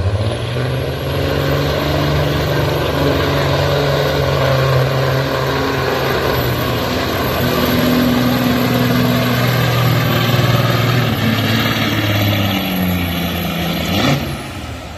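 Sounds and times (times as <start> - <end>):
truck diesel engine at high revs: 0.0 - 14.9.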